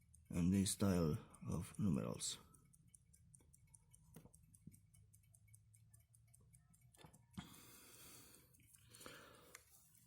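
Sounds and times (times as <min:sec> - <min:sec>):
pocket watch ticking: 0:00.0 - 0:10.0.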